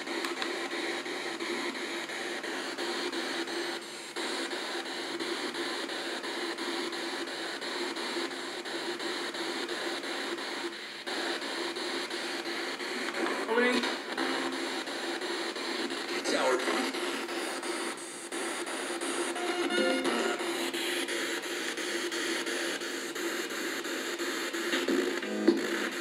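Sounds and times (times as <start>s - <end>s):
radio static chopping: 0.0s - 26.0s
steady hum: 0.0s - 26.0s.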